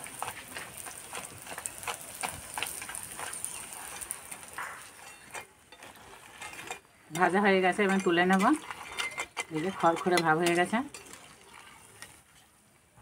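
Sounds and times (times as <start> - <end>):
food sizzling in oil: 0.0 - 12.7
metal spatula turning food: 0.0 - 12.8.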